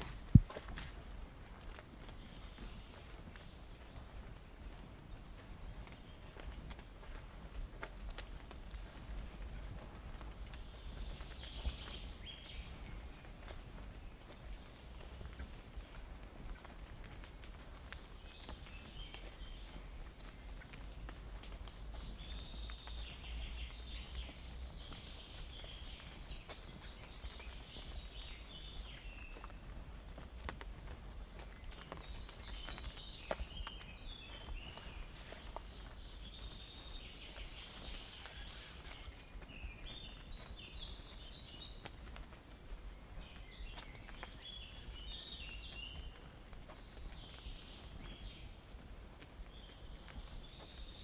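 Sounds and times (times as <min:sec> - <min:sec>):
footsteps on forest path: 0:00.0 - 0:51.0
songbirds singing: 0:00.0 - 0:51.0.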